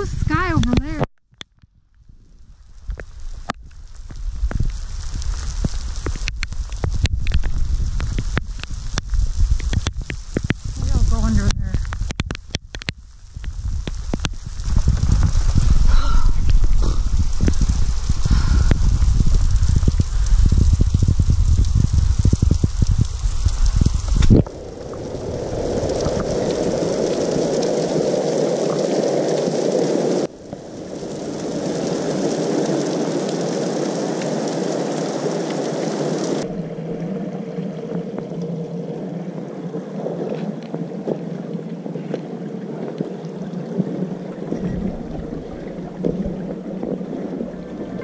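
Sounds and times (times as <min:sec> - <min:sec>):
rain hitting camera: 0:00.0 - 0:48.0
heavy rain pouring on rock: 0:02.3 - 0:48.0
runoff water splashing: 0:02.5 - 0:48.0.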